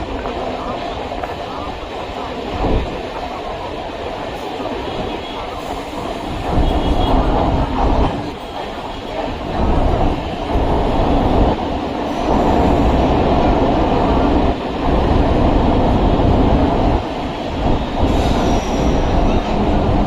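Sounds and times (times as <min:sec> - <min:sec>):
electric train rumbling and rattling: 0:00.0 - 0:20.0.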